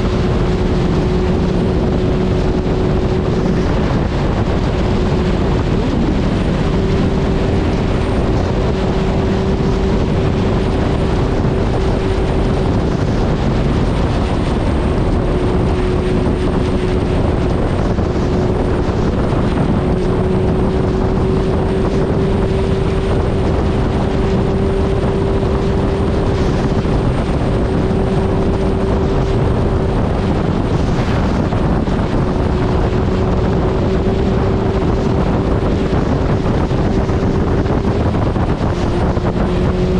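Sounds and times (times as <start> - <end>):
motorcycle engine cruising: 0.0 - 39.9
wind rushing on microphone: 0.0 - 39.9.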